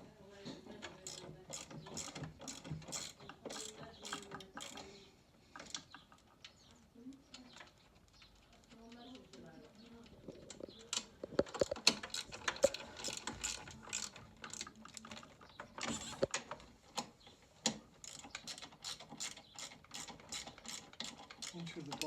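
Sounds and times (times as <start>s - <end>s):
metallic clicks and knocks: 0.7s - 22.0s.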